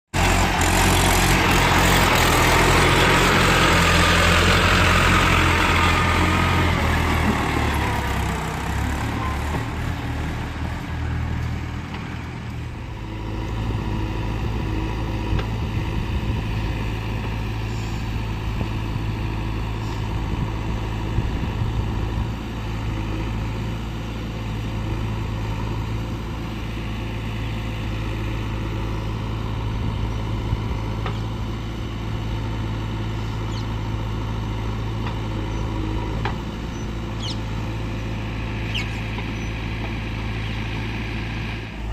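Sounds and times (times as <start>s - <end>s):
diesel engine of heavy machinery: 0.1s - 41.9s.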